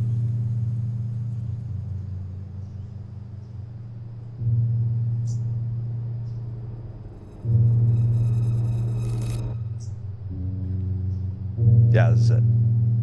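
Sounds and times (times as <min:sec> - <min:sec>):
low gong-like bass tones: 0:00.0 - 0:13.0.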